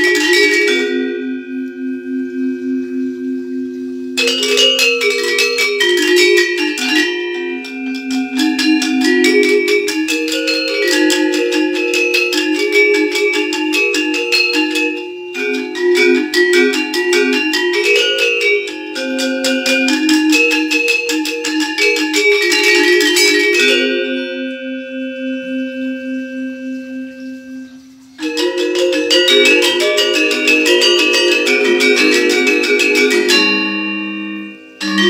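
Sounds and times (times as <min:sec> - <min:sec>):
metallophones played with mallets: 0:00.0 - 0:35.0.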